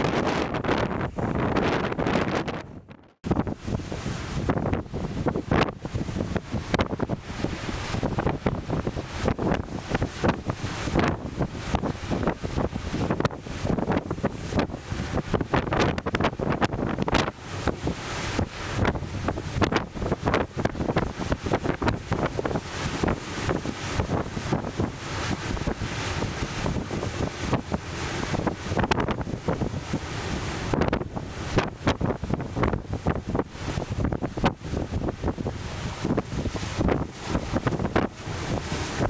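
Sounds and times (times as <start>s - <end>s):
gusty wind buffeting microphone: 0.0s - 39.0s
surf washing: 0.0s - 39.0s.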